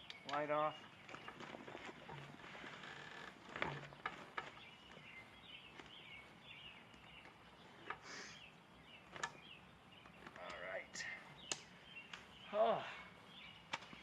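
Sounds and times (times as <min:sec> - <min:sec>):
bird singing faintly: 0:00.0 - 0:14.0.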